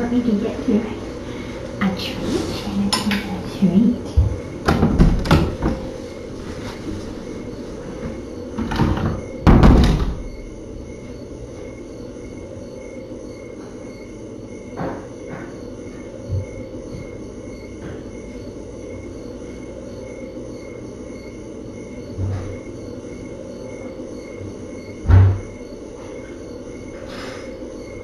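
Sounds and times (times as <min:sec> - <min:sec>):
room noise: 0:00.0 - 0:28.0.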